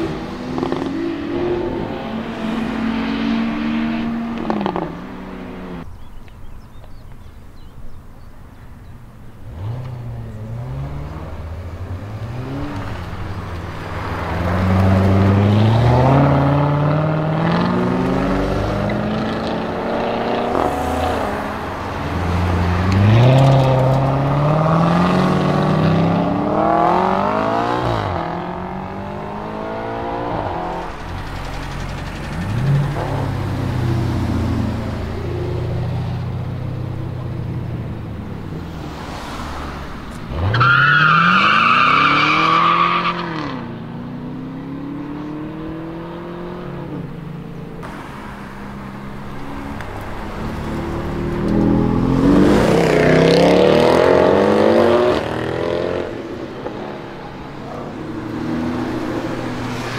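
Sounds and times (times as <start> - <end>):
car engines revving: 0.0 - 5.9, 9.1 - 59.9.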